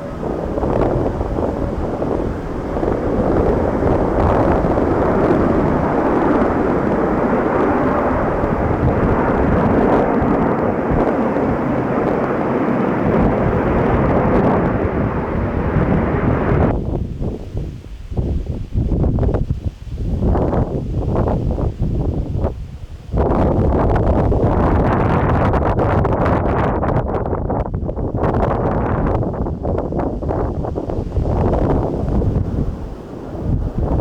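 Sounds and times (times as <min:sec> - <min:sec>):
jet airliner engines rumbling: 0:00.0 - 0:25.8, 0:27.0 - 0:34.0.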